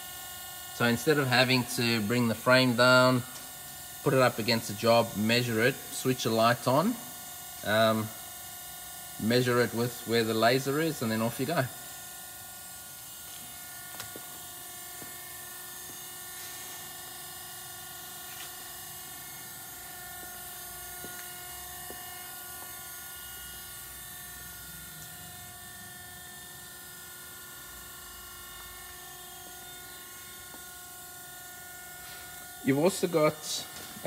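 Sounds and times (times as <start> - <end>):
electric motor hum and whine: 0.0 - 34.0.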